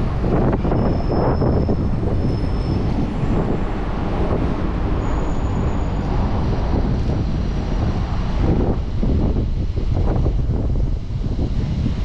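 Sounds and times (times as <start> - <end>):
city traffic: 0.0 - 12.0
wind rushing over microphone: 0.0 - 12.0.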